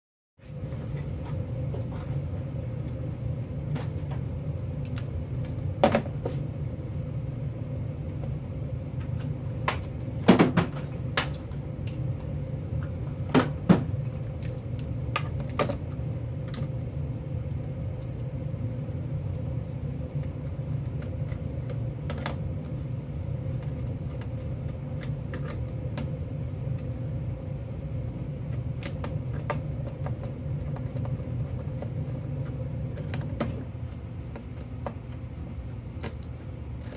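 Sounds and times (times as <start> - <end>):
steady low hum: 0.4 - 36.9.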